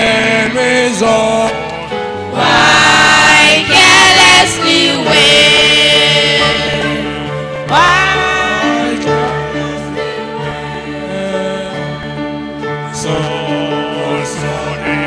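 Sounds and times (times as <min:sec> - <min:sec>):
choir singing gospel song: 0:00.0 - 0:15.0.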